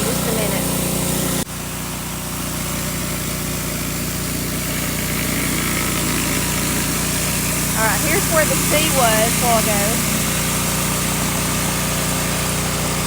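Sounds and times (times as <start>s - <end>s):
pressure washer engine running: 0.0s - 13.0s
water spraying onto concrete: 0.0s - 13.0s.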